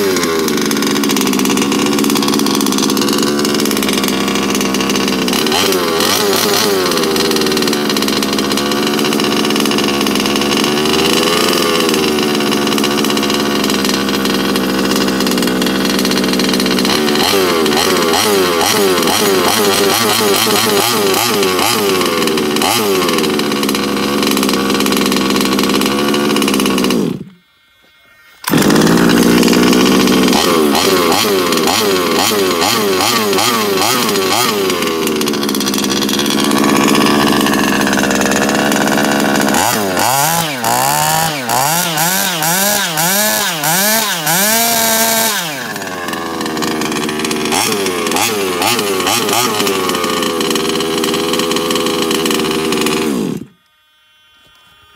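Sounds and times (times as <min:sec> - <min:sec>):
two-stroke engine revving: 0:00.0 - 0:27.5, 0:28.4 - 0:53.6.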